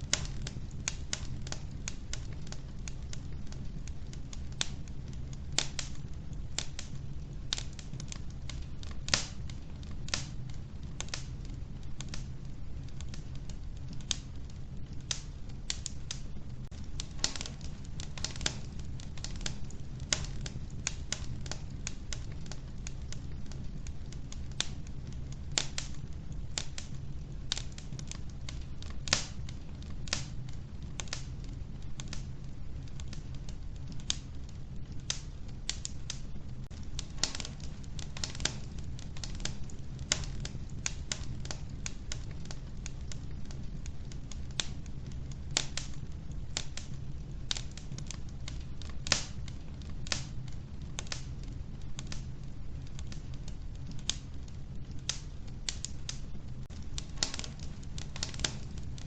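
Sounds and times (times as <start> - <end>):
wood fire crackling in stove: 0.0 - 59.0.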